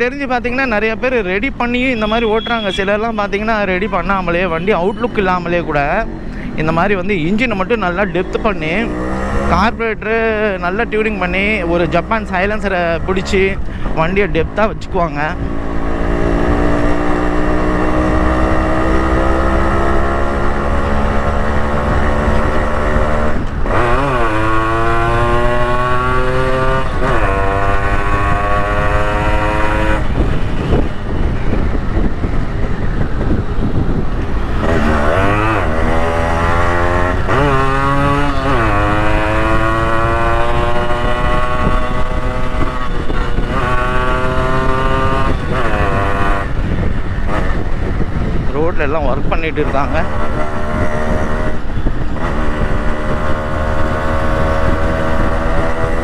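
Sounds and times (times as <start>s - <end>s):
low wind rumble: 0.0s - 56.0s.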